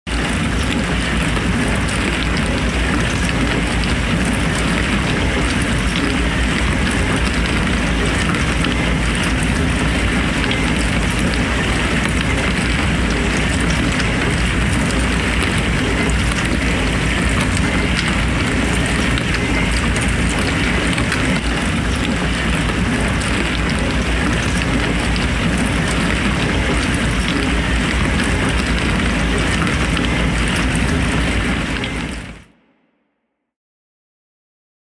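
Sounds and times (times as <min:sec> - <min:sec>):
dishwasher motor hum: 0:00.1 - 0:32.5.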